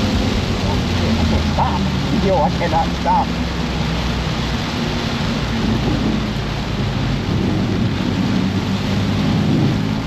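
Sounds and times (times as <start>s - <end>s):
car engine running: 0.0s - 10.0s
heavy rain and road spray: 0.0s - 10.0s
wind through car window: 0.0s - 10.0s.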